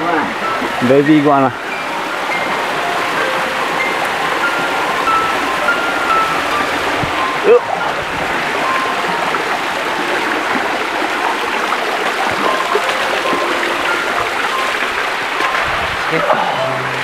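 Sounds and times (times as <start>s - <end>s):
stream water splashing over rocks: 0.0s - 17.0s.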